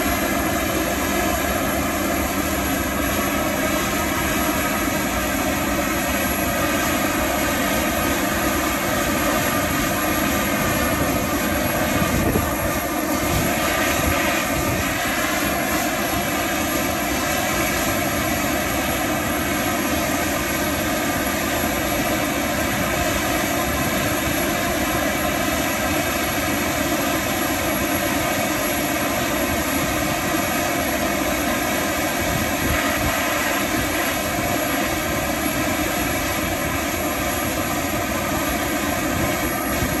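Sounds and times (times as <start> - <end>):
auxiliary power unit whine: 0.0 - 40.0.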